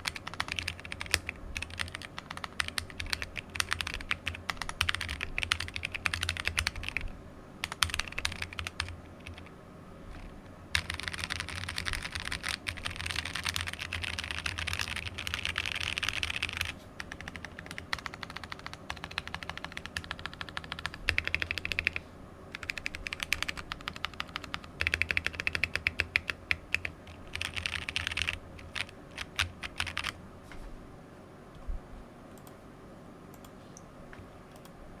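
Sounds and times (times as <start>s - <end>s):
mechanical keyboard typing: 0.0s - 9.5s, 10.1s - 30.2s.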